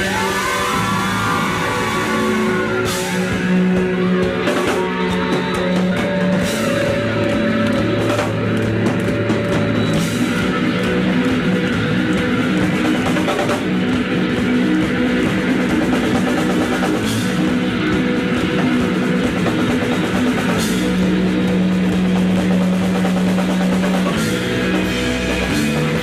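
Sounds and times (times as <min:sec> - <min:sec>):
bass guitar: 0:00.0 - 0:26.0
distorted electric guitar lead: 0:00.0 - 0:26.0
drums: 0:00.0 - 0:26.0.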